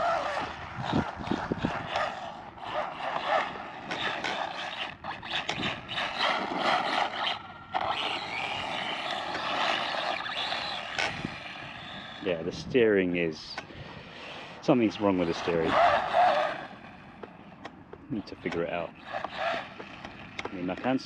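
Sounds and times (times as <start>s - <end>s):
toy truck electric motor whining: 0.0s - 12.3s, 13.6s - 14.6s, 15.2s - 17.3s, 18.4s - 20.5s.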